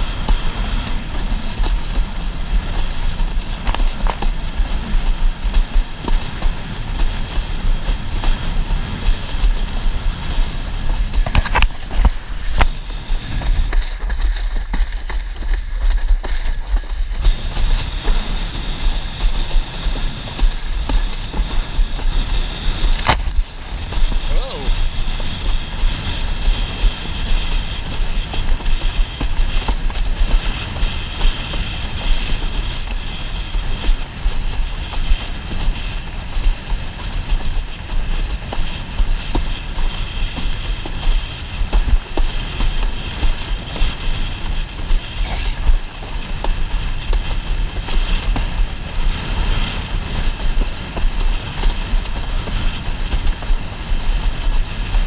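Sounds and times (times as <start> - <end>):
board slapping waves: 0.0 - 55.0
water rushing along hull: 0.0 - 55.0
wind rumble on microphone: 0.0 - 55.0.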